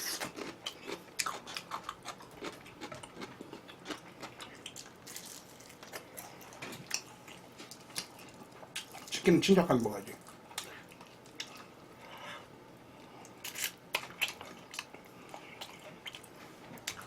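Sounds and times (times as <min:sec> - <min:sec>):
chewing fried chicken: 0:00.0 - 0:09.3, 0:10.1 - 0:12.3, 0:12.9 - 0:17.0.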